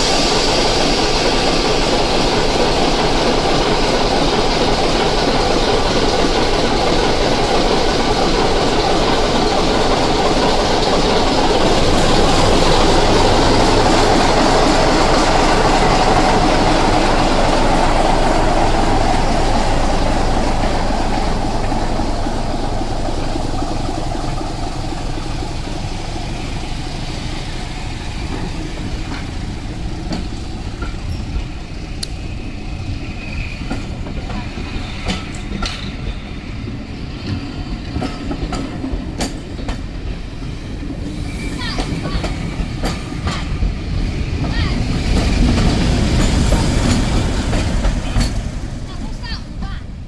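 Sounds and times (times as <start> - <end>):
diesel locomotive engine: 0.0 - 50.0
train wheels clicking over rail joints: 0.0 - 50.0.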